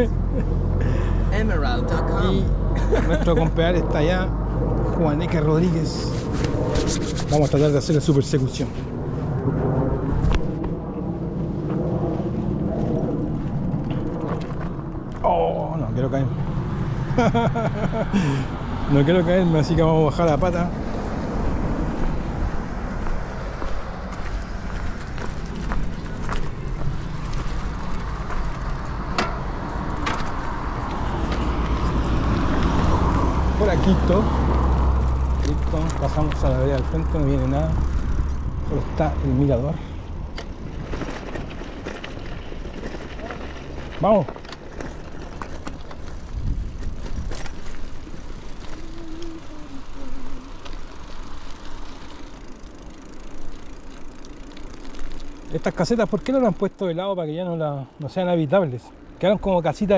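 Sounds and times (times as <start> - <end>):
wind rumble on microphone: 0.0 - 53.0
bicycle rolling on paved road: 0.0 - 59.9.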